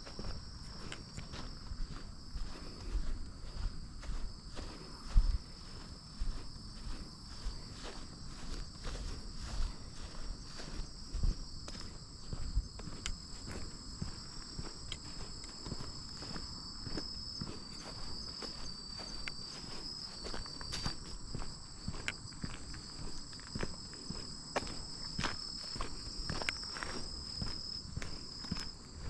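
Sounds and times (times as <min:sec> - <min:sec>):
footsteps on a path: 0:00.0 - 0:29.0
insects trilling: 0:00.0 - 0:29.0.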